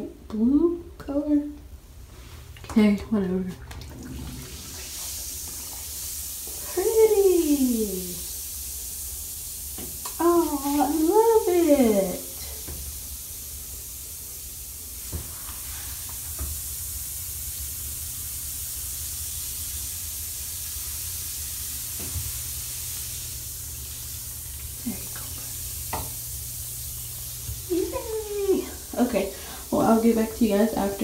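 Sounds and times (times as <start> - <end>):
bath bomb fizzing: 2.0 - 31.0.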